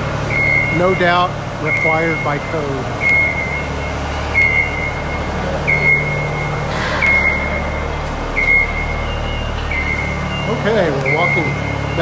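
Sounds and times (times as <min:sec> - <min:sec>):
reversing alarm beeps: 0:00.3 - 0:12.0.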